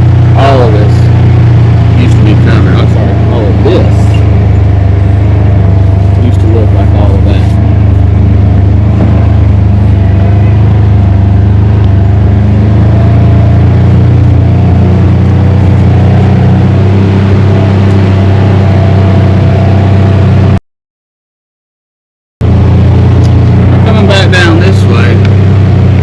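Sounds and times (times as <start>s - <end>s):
engine humming: 0.0s - 20.6s, 22.4s - 26.0s.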